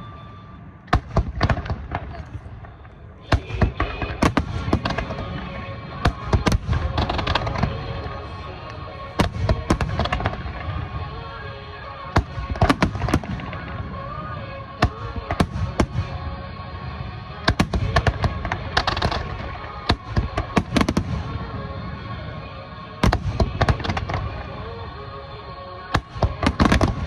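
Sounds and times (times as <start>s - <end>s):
fireworks bangs and crackles: 0.0s - 27.0s
music: 0.0s - 27.0s.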